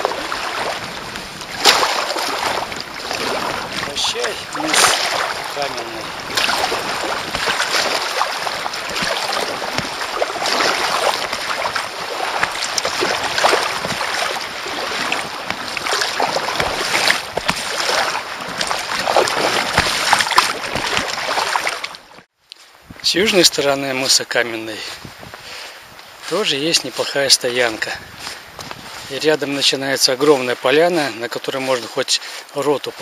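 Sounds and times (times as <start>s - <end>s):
paddle splashes: 0.0s - 33.0s
water rushing along kayak: 0.0s - 33.0s.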